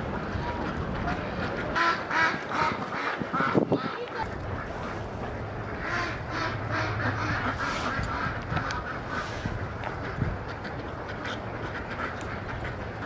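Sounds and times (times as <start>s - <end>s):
ducks quacking: 0.0s - 13.0s
geese honking: 0.0s - 13.0s.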